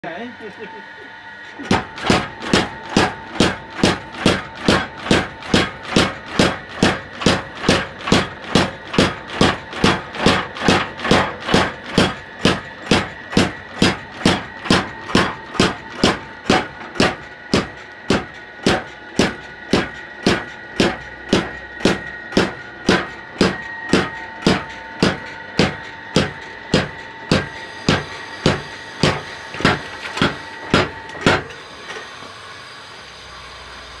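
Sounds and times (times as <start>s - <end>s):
power hammer metallic blows: 1.6s - 31.6s.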